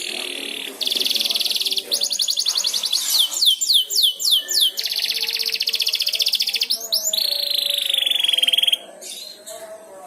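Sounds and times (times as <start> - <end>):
canary singing: 0.0 - 9.9.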